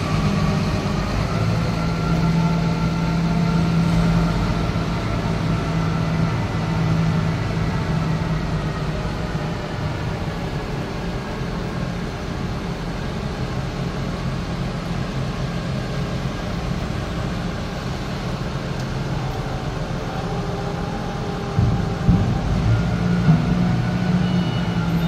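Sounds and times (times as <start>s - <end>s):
diesel forklift engine running: 0.0s - 25.0s.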